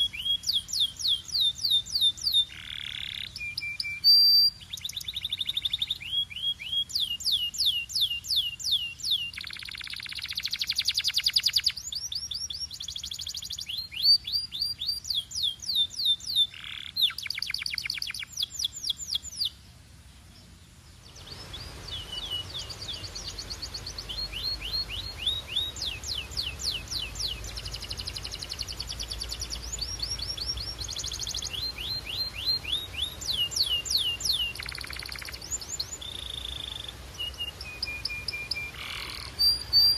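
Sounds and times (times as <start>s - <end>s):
canary singing in rapid trills: 0.0s - 19.5s, 21.2s - 39.9s
low background hiss: 0.0s - 39.9s.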